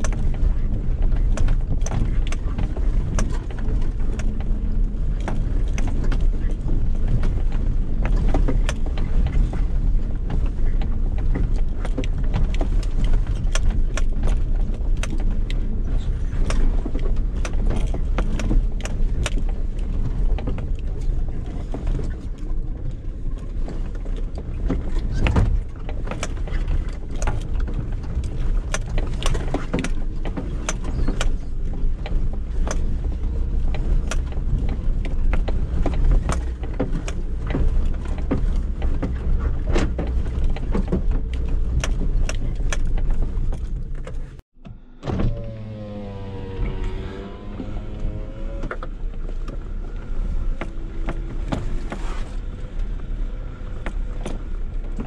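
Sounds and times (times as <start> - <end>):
car engine running: 0.0 - 55.0
vehicle knocks and rattles: 0.0 - 55.0.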